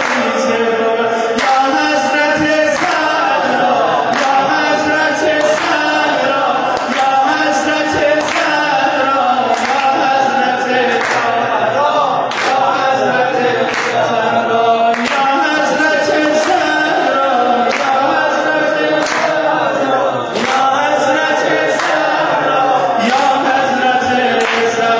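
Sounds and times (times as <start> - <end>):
group of voices chanting: 0.0 - 24.9
man leading a devotional chant: 0.0 - 24.9.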